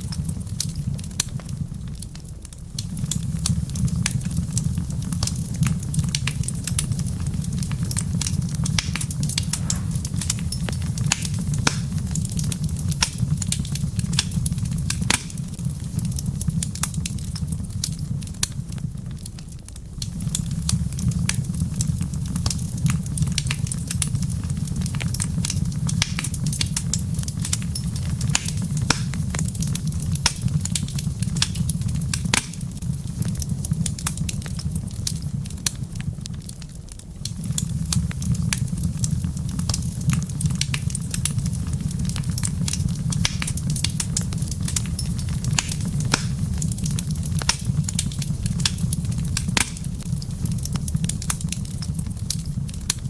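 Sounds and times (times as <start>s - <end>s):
fire crackling and popping: 0.0s - 53.0s
low rumble of fire: 0.0s - 53.0s.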